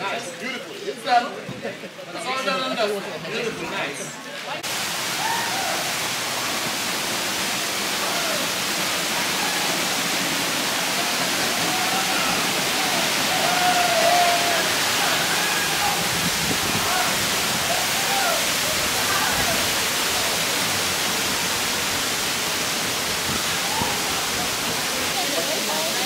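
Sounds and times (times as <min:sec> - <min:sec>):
stream rushing over boulders: 0:00.0 - 0:26.0.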